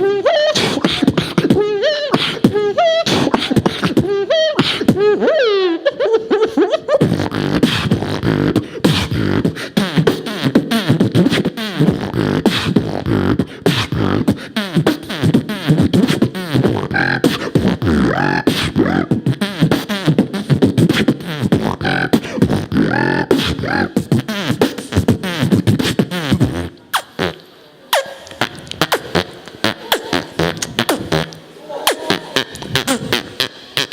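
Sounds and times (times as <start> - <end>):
human beatboxing: 0.0 - 33.9.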